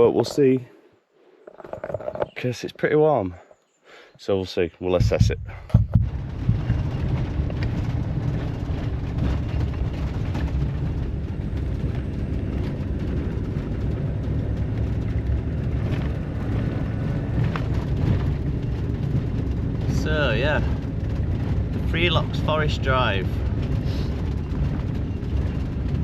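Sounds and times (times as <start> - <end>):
faint knocks and rattles: 1.4 - 2.5, 4.9 - 26.0
vehicle engine and road rumble: 1.5 - 2.7, 4.9 - 26.0.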